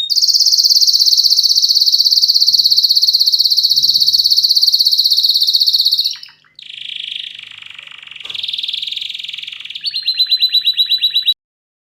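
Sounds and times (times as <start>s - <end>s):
canary singing: 0.0s - 11.4s.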